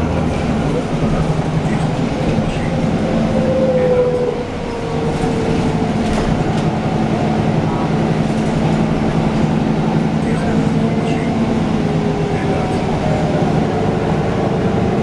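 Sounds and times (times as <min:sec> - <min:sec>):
bus engine hum: 0:00.0 - 0:15.0
road rumble: 0:00.0 - 0:15.0.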